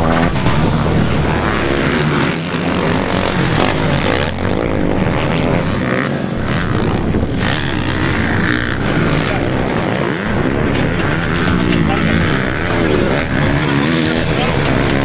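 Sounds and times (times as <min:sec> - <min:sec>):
dirt bike engines racing: 0:00.0 - 0:15.0.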